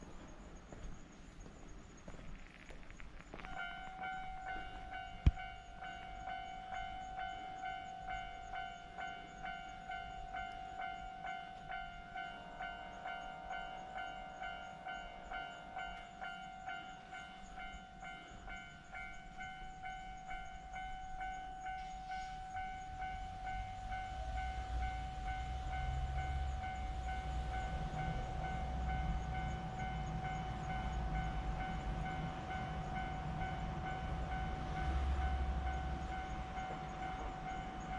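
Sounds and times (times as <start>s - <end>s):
train rumbling past: 0.0s - 37.9s.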